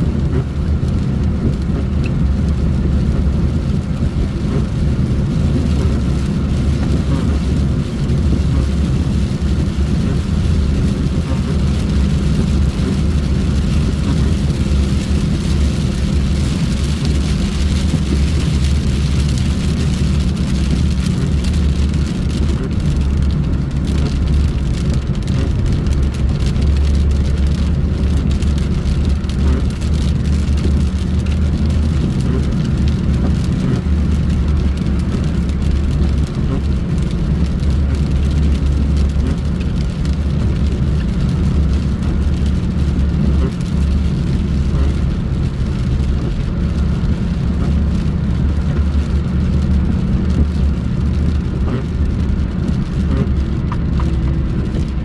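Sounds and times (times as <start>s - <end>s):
vehicle driving on road: 0.0s - 55.0s.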